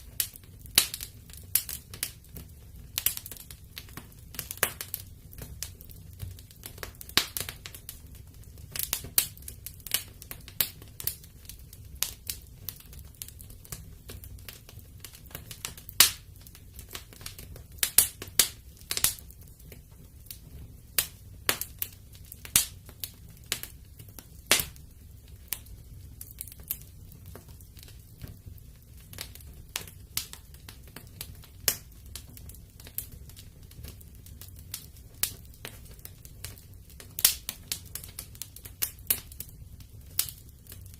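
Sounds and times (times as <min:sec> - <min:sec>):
faint low rumble of flames: 0:00.0 - 0:40.9
wood fire crackling and popping: 0:00.0 - 0:40.9.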